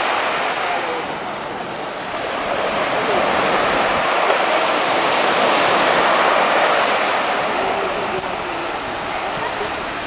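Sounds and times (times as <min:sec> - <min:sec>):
waves breaking on a beach: 0:00.0 - 0:10.0.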